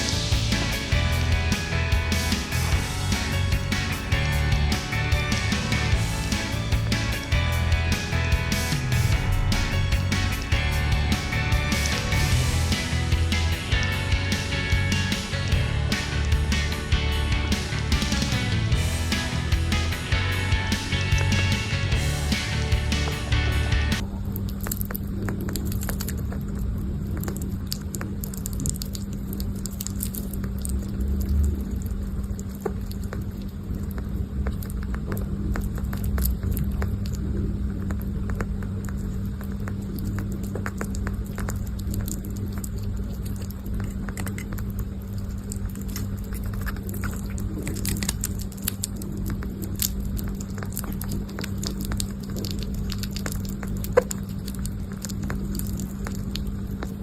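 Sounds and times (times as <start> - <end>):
small pet chewing food: 0.0 - 57.0
steady low hum: 0.0 - 57.0.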